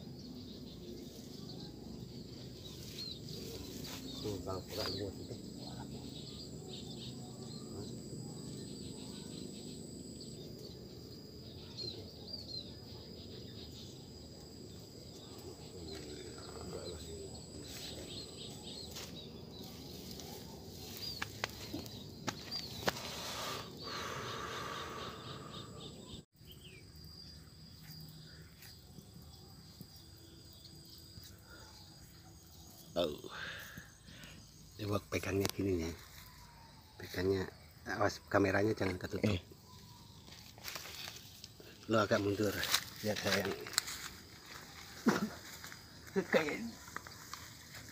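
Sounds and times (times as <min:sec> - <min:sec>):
bird chirps: 0:00.0 - 0:43.8.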